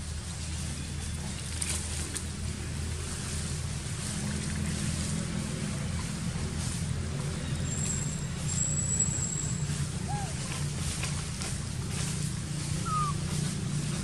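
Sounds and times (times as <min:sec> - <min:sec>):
distant engine rumble: 0:00.0 - 0:14.0.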